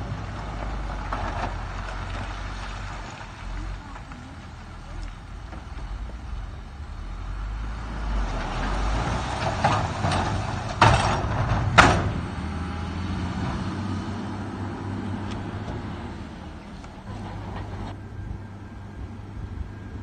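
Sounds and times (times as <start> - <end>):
diesel machinery droning: 0.0 - 20.0.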